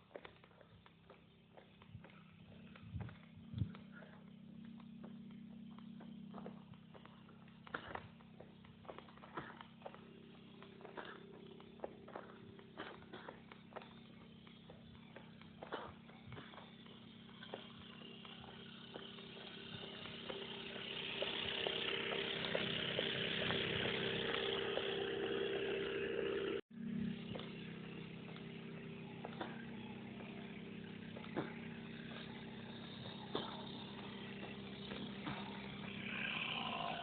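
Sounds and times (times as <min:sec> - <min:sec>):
drone rotors humming: 0:00.0 - 0:37.0.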